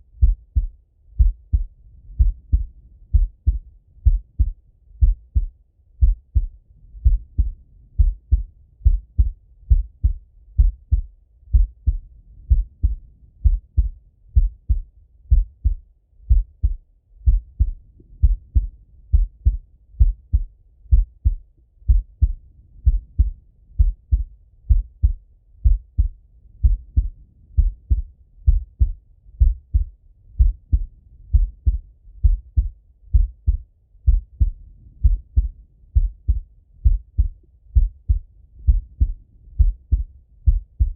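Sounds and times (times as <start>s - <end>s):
heartbeat through stethoscope: 0.0s - 40.9s.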